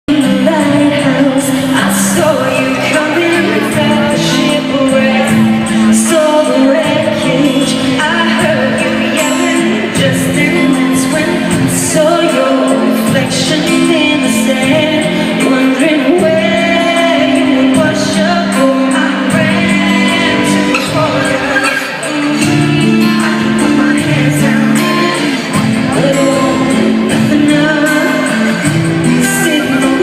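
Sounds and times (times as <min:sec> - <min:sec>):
band accompaniment: 0:00.1 - 0:30.0
woman singing pop ballad: 0:00.1 - 0:30.0.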